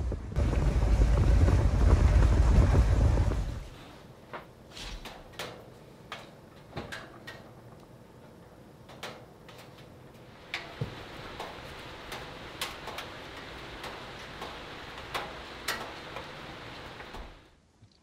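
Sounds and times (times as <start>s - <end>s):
steady fire hiss: 0.0s - 17.6s
wood fire crackling and popping: 0.0s - 17.6s.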